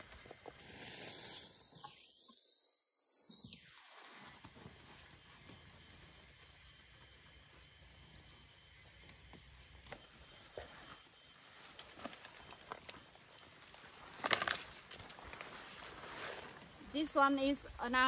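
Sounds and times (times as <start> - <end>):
rustling of leaves and stalks: 0.0 - 8.4, 9.8 - 18.0.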